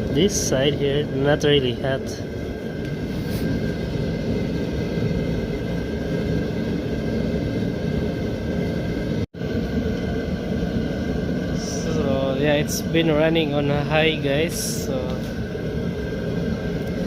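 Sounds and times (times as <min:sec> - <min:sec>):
propane heater roaring: 0:00.0 - 0:17.0.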